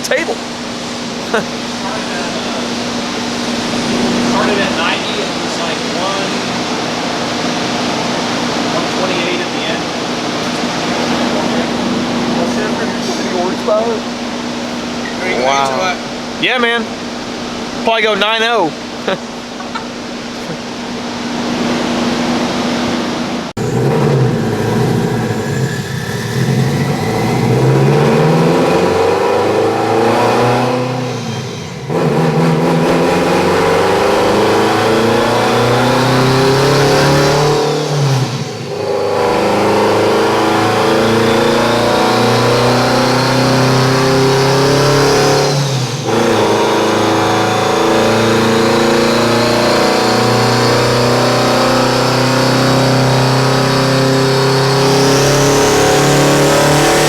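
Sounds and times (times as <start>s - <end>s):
car engine revving hard: 0.0s - 57.0s.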